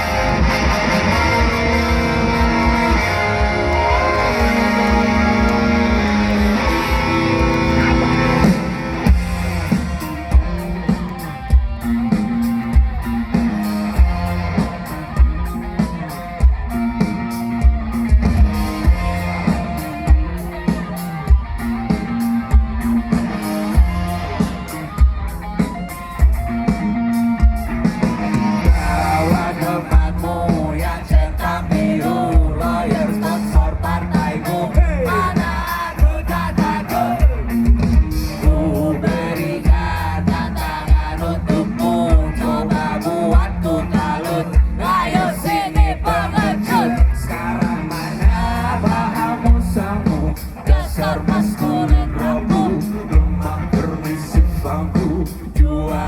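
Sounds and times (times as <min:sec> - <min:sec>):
rock band playing: 0:00.0 - 0:56.0
drum beat: 0:02.4 - 0:56.0.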